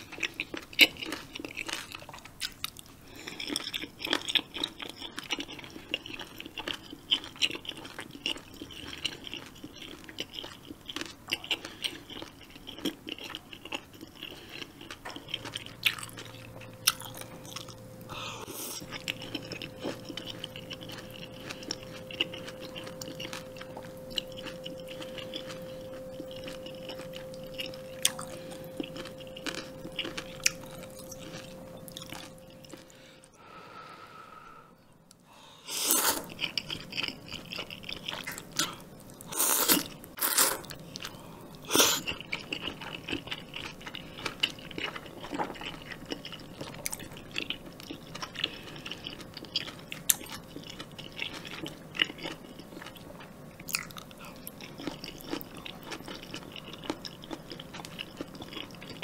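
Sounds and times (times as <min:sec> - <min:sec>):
person chewing and crunching: 0:00.0 - 0:33.3, 0:35.7 - 0:59.0
faint steady hum: 0:00.0 - 0:59.0.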